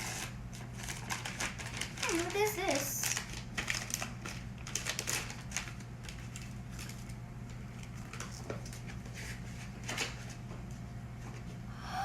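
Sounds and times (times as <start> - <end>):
packaging rustling: 0.0 - 10.4
steady low hum: 0.0 - 12.0.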